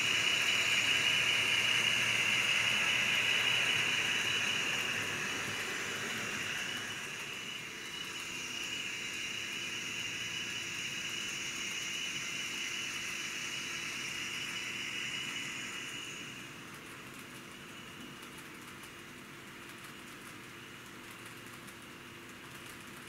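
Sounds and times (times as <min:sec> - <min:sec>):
model train wheels rolling on rails: 0:00.0 - 0:23.0.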